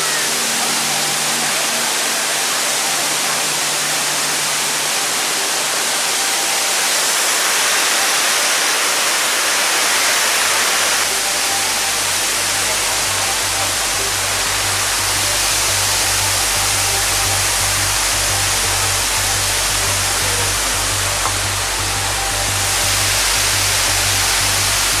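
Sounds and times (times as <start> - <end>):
rushing mountain stream: 0.0 - 25.0.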